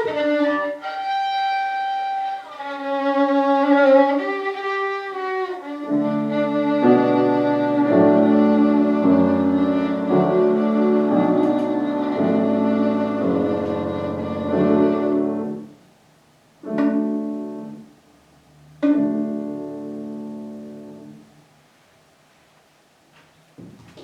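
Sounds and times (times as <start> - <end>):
violin: 0.0 - 15.8, 16.6 - 17.9, 18.8 - 21.2
piano chords: 0.0 - 15.9, 16.6 - 21.5.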